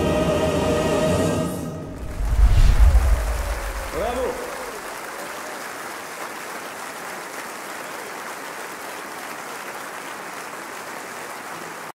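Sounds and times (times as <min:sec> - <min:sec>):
crowd applause: 0:02.0 - 0:12.0.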